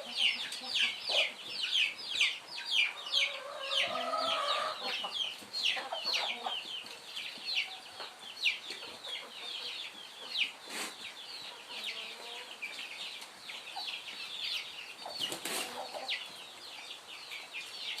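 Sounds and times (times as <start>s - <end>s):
chickens peeping: 0.0s - 18.0s.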